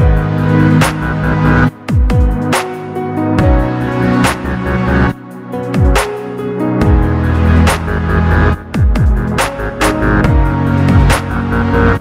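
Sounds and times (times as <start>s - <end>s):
electronic music: 0.0s - 12.0s
sliding deep bass notes: 0.0s - 12.0s.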